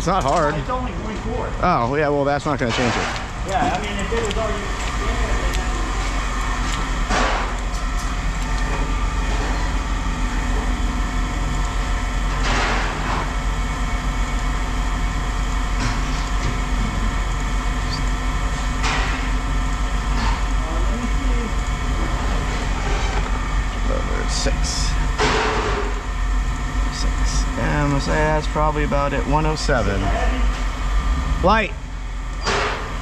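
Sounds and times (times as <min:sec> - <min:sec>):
machine running with low hum: 0:00.0 - 0:33.0.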